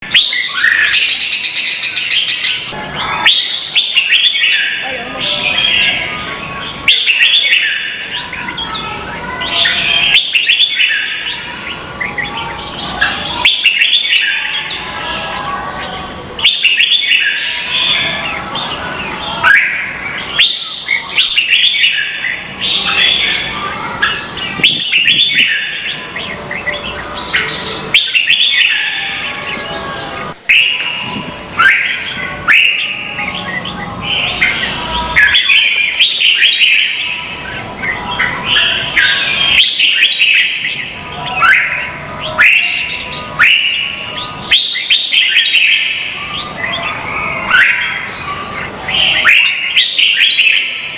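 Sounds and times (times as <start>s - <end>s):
bulbuls singing: 0.0s - 50.9s.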